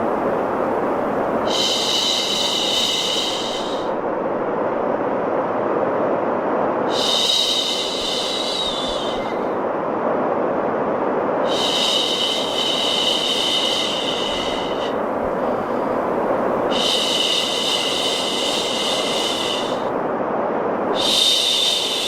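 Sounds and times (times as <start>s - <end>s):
steady white noise: 0.0s - 22.0s.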